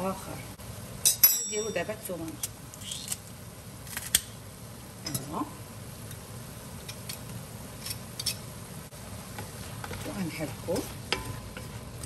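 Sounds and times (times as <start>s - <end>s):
faint sizzle of vegetables frying: 0.0s - 12.0s.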